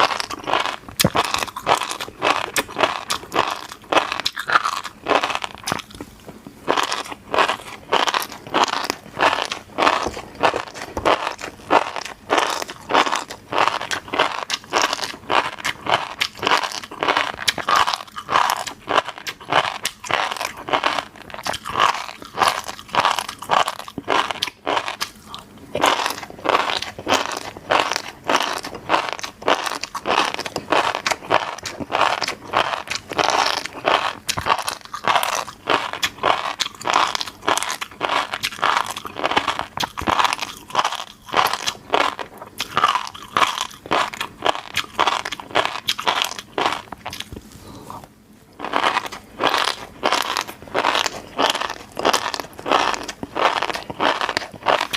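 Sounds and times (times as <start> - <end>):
chewing crisp food: 0.0 - 54.9.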